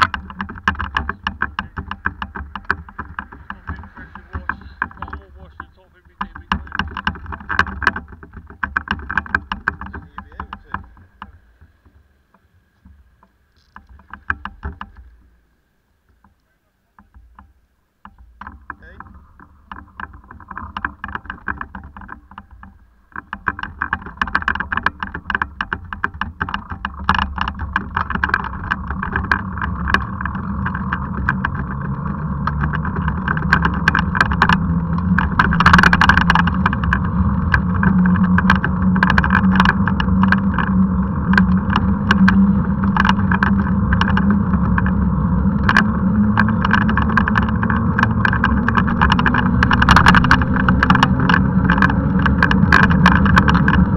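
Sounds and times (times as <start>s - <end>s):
handcycle tyres rumbling on tarmac: 0.0s - 53.9s
small rattles and clicks: 0.0s - 53.9s.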